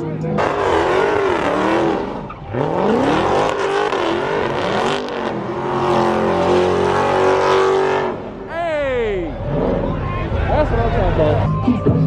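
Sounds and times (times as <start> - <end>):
car engine revving: 0.0 - 8.5, 9.2 - 11.8.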